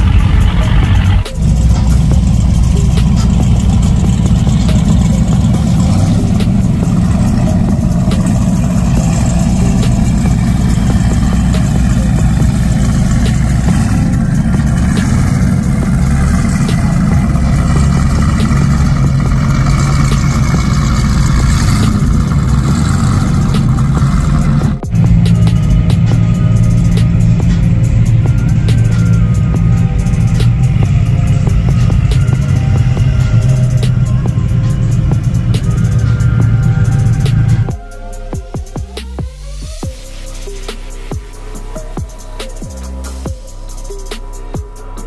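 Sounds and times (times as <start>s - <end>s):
powerboat engines idling: 0.0s - 45.0s.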